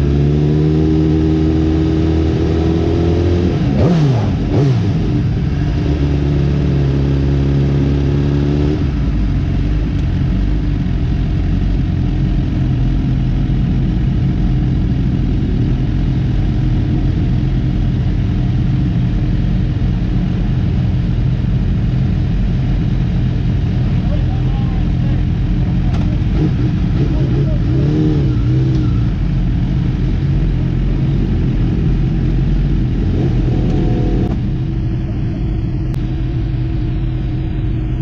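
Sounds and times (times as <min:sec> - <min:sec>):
motorcycle engine: 0:00.0 - 0:38.0.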